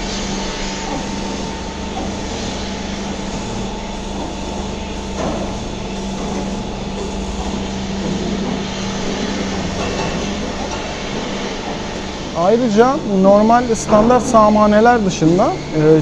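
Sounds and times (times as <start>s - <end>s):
milking machine humming: 0.0s - 16.0s.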